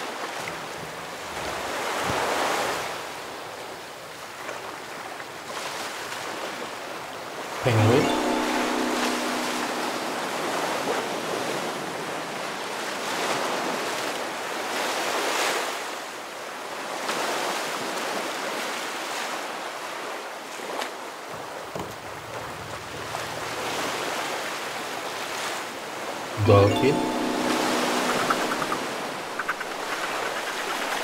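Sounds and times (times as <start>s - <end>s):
wind: 0.0s - 31.0s.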